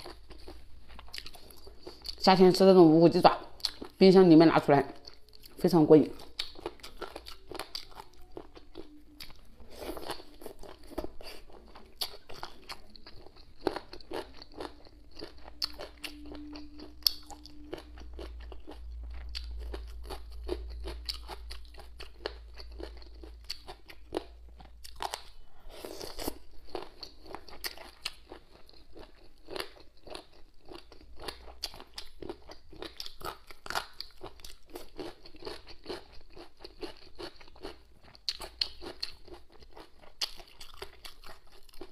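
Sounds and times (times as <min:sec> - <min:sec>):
person chewing crunchy food: 0:00.0 - 0:02.2, 0:03.6 - 0:04.0, 0:05.0 - 0:41.9.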